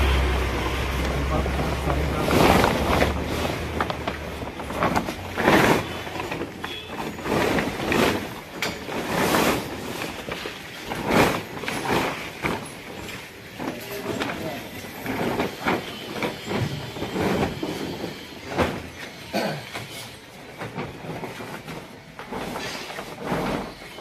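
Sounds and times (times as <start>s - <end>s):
plastic tarpaulin rustling: 0.0s - 24.0s.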